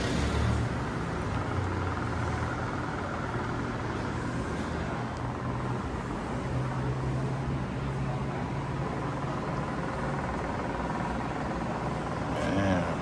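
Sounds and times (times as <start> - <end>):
engine idling rumble: 0.0 - 13.0.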